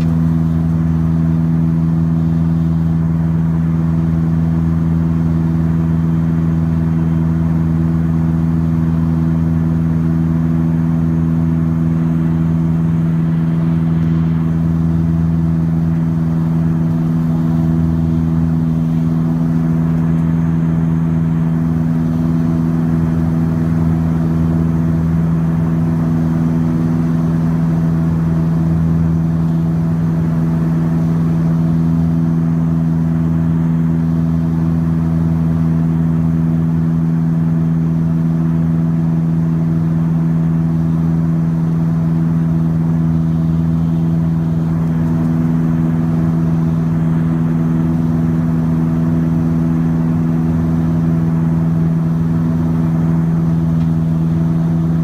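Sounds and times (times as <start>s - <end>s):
turboprop engine drone in cabin: 0.0s - 55.0s.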